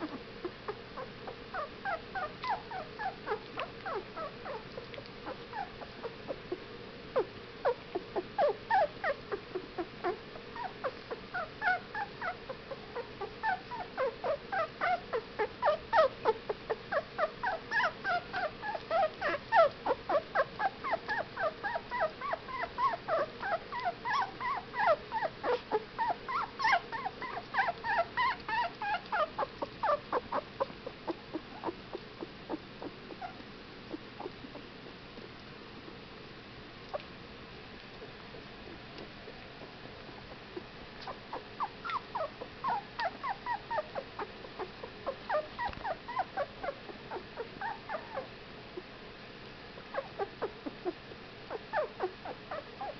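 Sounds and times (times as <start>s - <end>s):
puppies whimpering: 0.0s - 6.6s, 7.2s - 34.7s, 40.1s - 48.4s, 49.9s - 52.9s.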